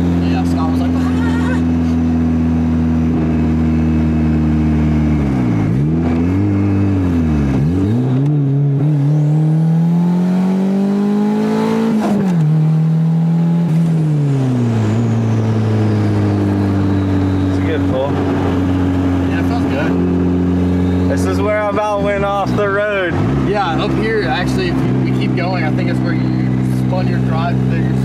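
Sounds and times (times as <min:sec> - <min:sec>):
car engine from inside cabin: 0:00.0 - 0:28.0.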